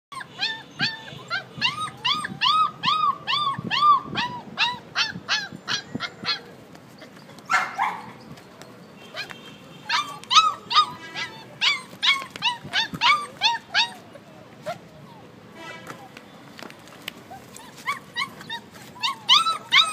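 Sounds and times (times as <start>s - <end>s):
puppies yelping: 0.1s - 8.2s, 9.2s - 15.3s, 17.3s - 19.9s.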